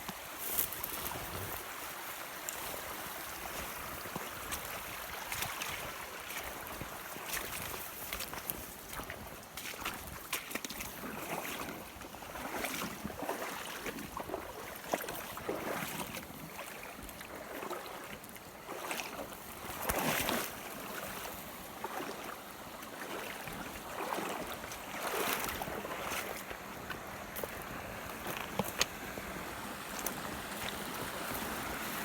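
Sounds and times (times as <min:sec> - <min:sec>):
faint wind: 0:00.0 - 0:32.0
water sloshing and lapping: 0:00.0 - 0:32.0.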